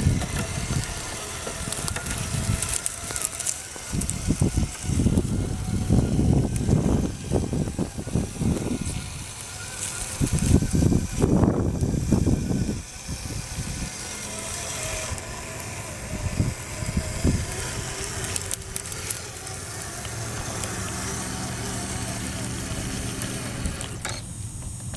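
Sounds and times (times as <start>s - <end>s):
electric motor and gear whine: 0.0s - 24.9s
low buffeting: 0.0s - 24.9s
tracks rattling: 0.0s - 24.9s.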